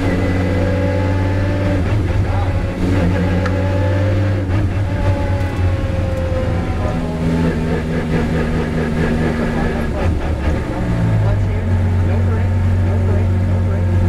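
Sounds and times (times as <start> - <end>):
car engine low drone: 0.0 - 14.0.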